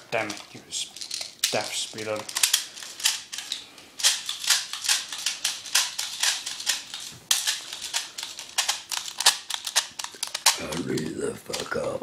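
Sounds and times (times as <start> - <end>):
plastic pellets rattling: 0.0 - 11.9.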